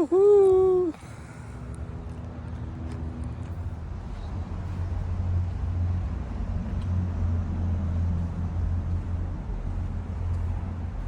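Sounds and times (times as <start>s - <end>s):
vehicle low steady hum: 0.0s - 11.0s.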